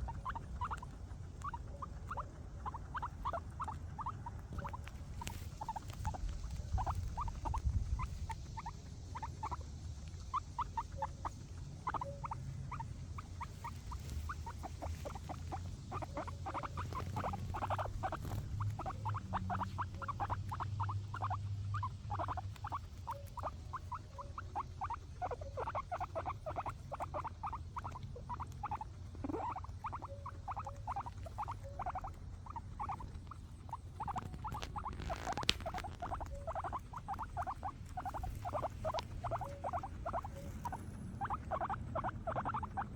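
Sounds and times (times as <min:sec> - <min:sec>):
guinea pigs chewing grass: 0:00.0 - 0:42.9
low steady rumble: 0:00.0 - 0:42.9.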